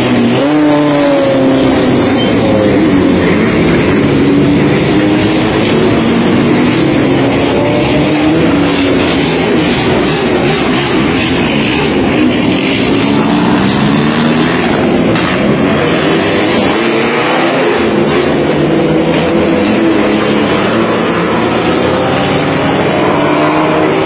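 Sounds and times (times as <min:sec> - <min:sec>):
racing car engines revving: 0:00.0 - 0:24.0.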